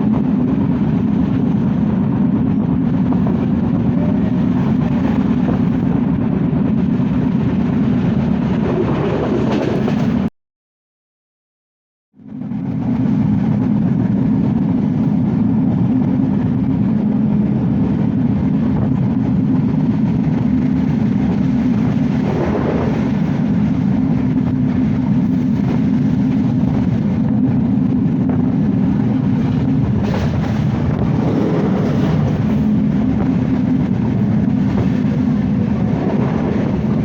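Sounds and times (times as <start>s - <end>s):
train rumbling along track: 0.0s - 10.3s, 12.2s - 37.0s.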